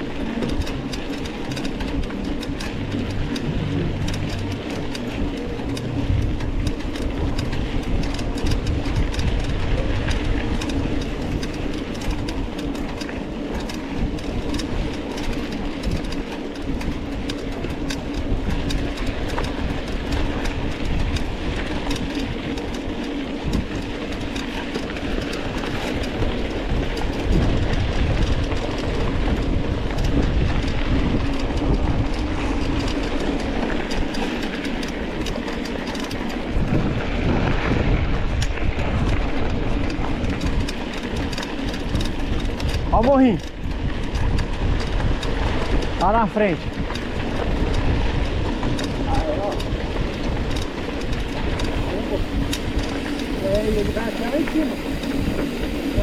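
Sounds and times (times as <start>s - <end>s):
bike rattling on rough trail: 0.0s - 56.0s
low rolling rumble: 0.0s - 56.0s.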